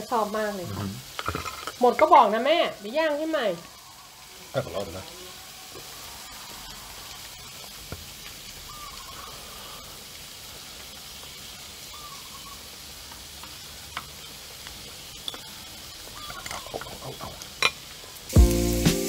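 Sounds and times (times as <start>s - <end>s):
meat sizzling on grill pan: 0.0s - 19.0s.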